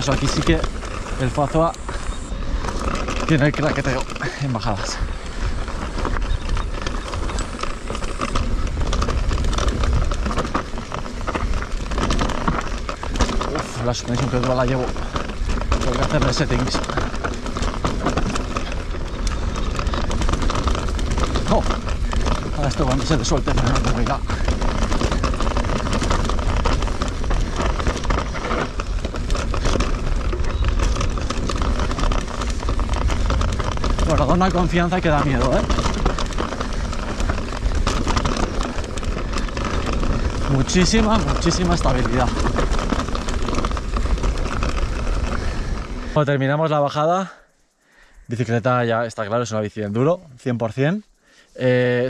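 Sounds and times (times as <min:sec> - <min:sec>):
wind noise: 0:00.0 - 0:46.2
bike motor rattling: 0:00.0 - 0:52.0
bike tyre rumble: 0:00.0 - 0:52.0.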